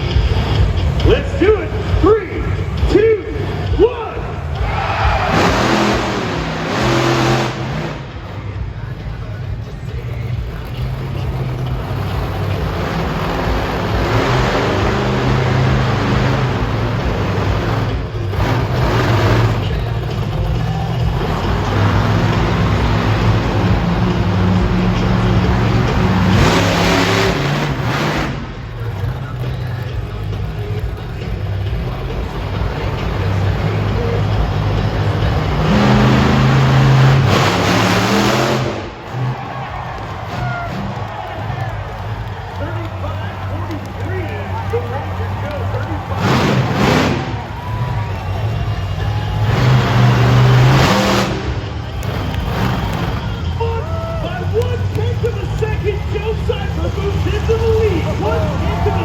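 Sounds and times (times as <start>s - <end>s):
monster truck engine running: 0.0s - 59.0s.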